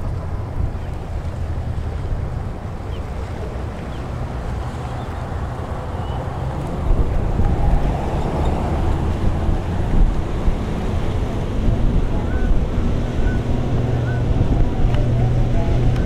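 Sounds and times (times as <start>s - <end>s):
low ship rumble: 0.0s - 16.0s
rushing water: 0.0s - 16.0s
wind buffeting the microphone: 0.0s - 16.0s.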